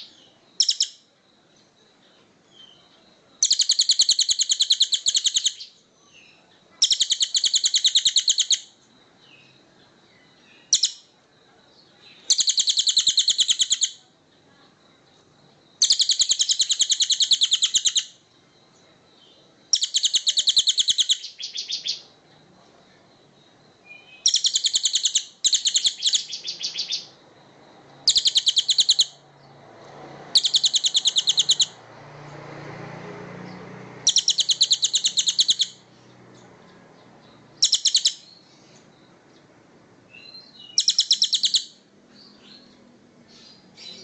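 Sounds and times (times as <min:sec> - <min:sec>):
songbird buzzy trills: 0:00.0 - 0:44.0.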